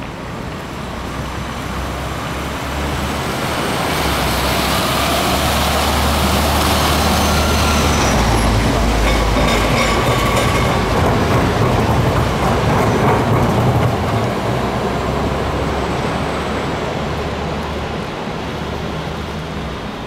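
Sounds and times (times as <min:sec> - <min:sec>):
tram rumbling past: 0:00.0 - 0:20.0.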